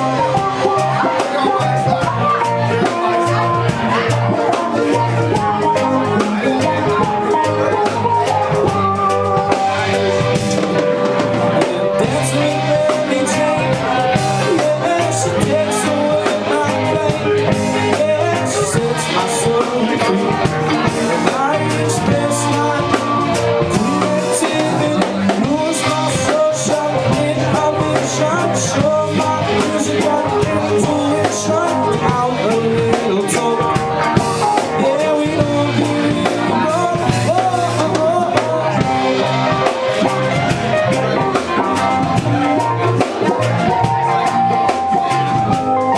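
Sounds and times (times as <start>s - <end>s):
live blues-rock band: 0.0s - 45.9s.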